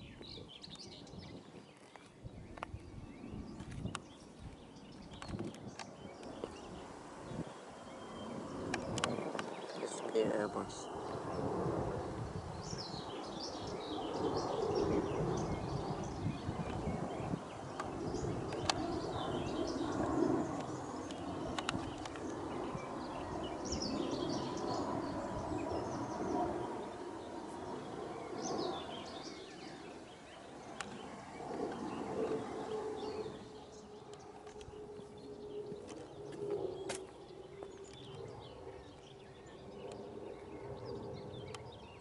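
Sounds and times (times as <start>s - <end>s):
jet airliner passing overhead: 0.0s - 42.0s
small birds chirping: 0.0s - 42.0s.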